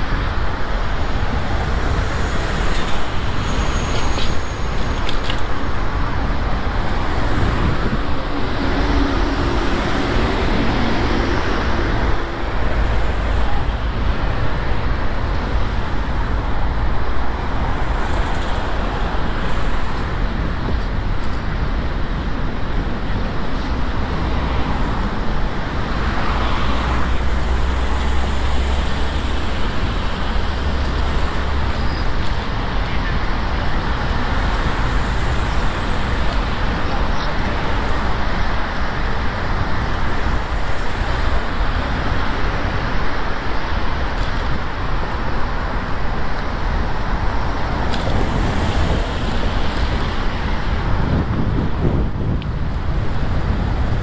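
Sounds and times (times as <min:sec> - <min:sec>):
cars passing close: 0:00.0 - 0:54.0
steady low traffic rumble: 0:00.0 - 0:54.0
vehicle engine humming: 0:00.0 - 0:54.0.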